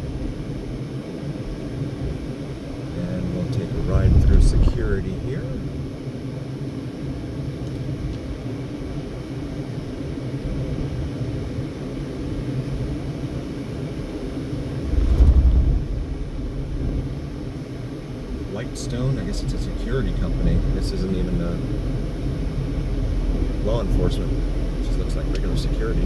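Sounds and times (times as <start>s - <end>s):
car engine rumble: 0.0s - 26.0s
road noise inside car: 0.0s - 26.0s.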